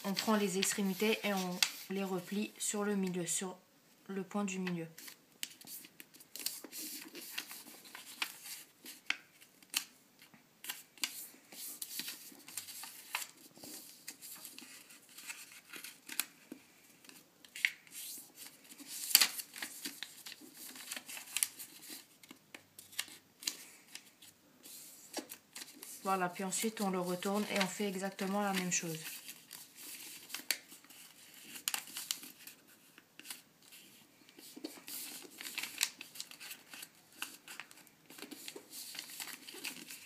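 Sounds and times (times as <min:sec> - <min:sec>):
paper crackling as folded: 0:00.0 - 0:03.2, 0:04.6 - 0:40.0.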